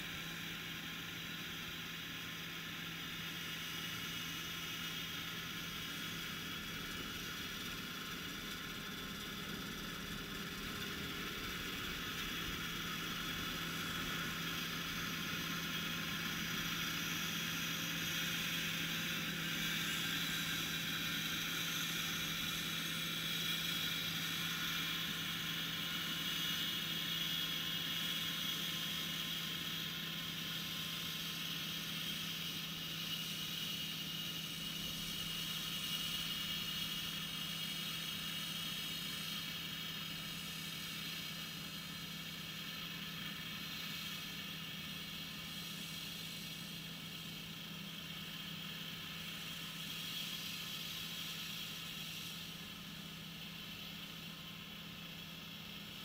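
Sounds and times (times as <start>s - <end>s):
combine harvester running: 0.0s - 56.0s
whirring hissing machine noise: 0.0s - 56.0s.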